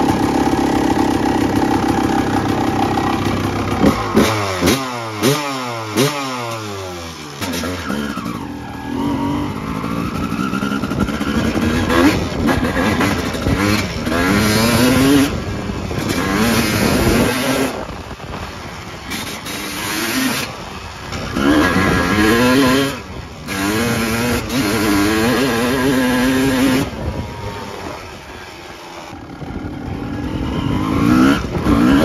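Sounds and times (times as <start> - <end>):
snowmobile engine revving: 0.0 - 32.0.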